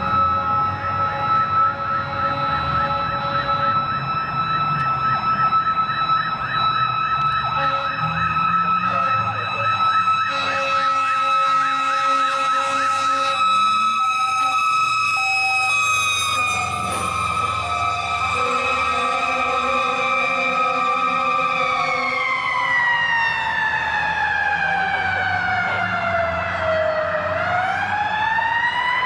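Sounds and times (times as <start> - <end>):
fire engine siren: 0.0 - 29.0.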